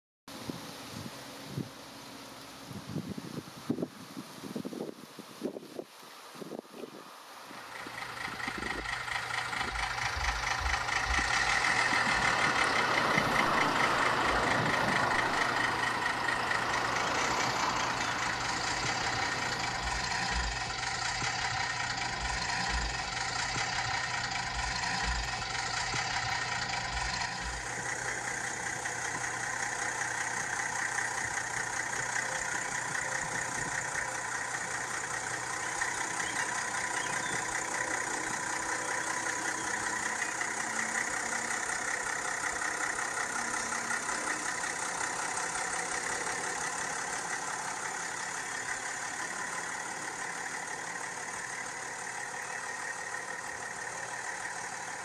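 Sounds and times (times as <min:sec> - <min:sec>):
tractor diesel engine idling: 0:06.5 - 0:55.0.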